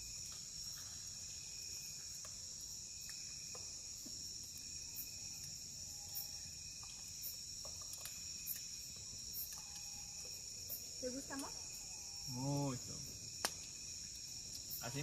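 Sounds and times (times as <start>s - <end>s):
campfire popping and crackling: 0.0s - 15.0s
crickets trilling: 0.0s - 15.0s.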